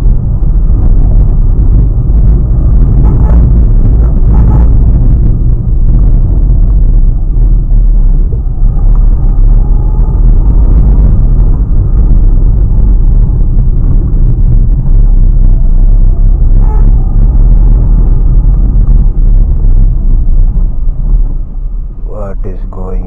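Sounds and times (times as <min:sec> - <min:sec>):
car engine and tyres rumble: 0:00.0 - 0:23.0.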